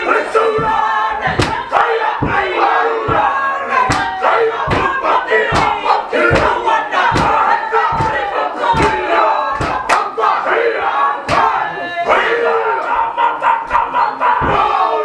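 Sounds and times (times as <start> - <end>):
group shouting chant in unison: 0.0 - 15.0
rhythmic thud: 0.0 - 15.0.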